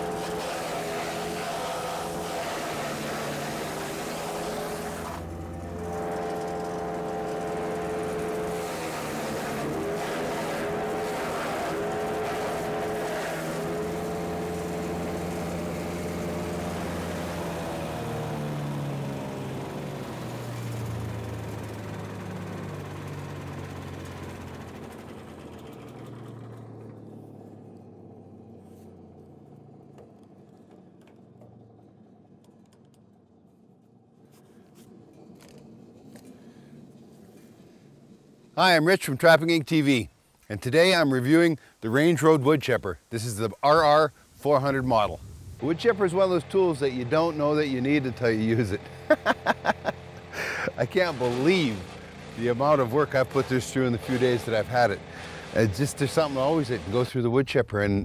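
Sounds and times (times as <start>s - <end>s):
wood chipper engine running: 0.0s - 57.3s.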